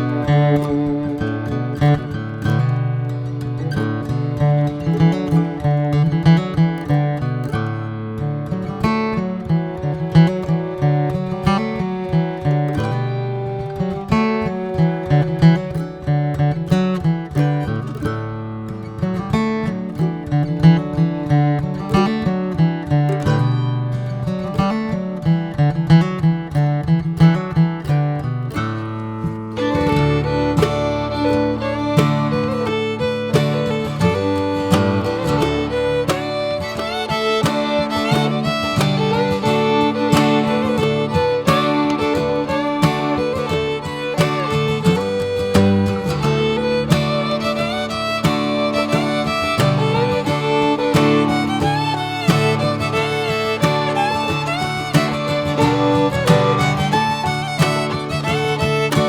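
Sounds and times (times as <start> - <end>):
acoustic guitar: 0.0 - 59.0
fiddle: 0.0 - 59.0.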